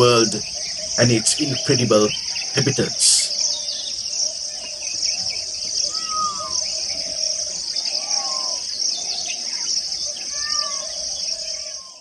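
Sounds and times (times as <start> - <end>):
crickets and insects chirping: 0.0 - 12.0.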